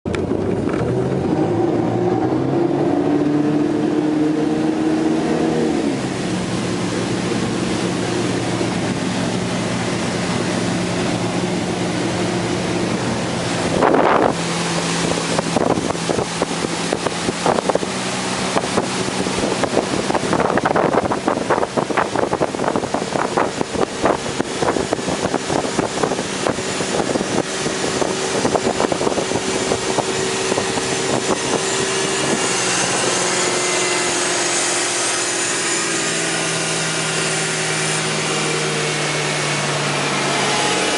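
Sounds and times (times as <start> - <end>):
boat inboard engine running: 0.1 - 40.9
wind gusts on microphone: 0.1 - 40.9.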